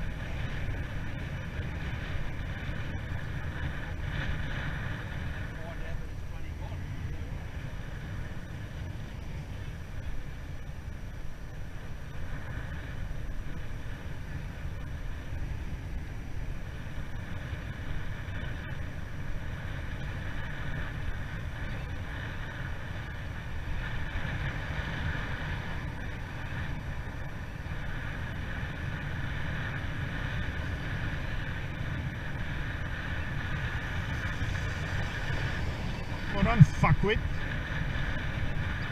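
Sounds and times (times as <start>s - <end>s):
low road rumble: 0.0s - 38.9s
wind rush on microphone: 0.0s - 38.9s.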